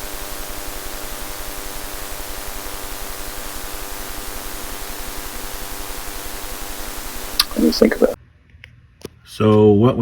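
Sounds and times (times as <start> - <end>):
background hiss: 0.0 - 8.2
electrical hum: 0.0 - 8.2
low even pulsing: 0.0 - 8.2.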